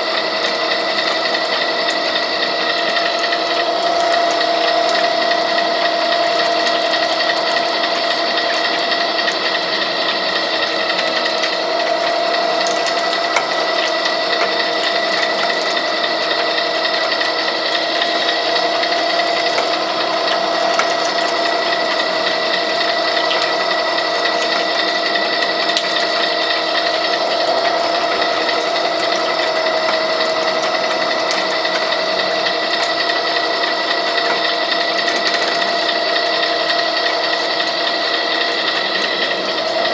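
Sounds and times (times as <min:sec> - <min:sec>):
gear whine: 0:00.0 - 0:39.9
pipe threading machine running: 0:00.0 - 0:39.9.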